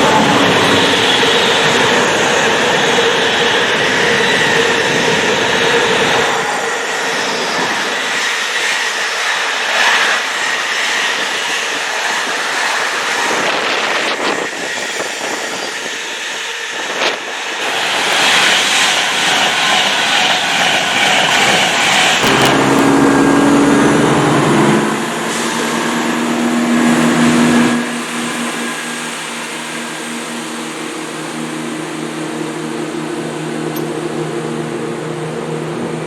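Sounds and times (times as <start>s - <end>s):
train wheels on rails: 0.0s - 34.8s.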